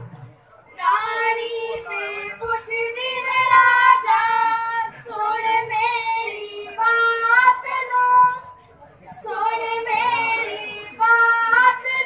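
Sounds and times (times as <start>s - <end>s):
women singing folk song: 0.7s - 12.0s.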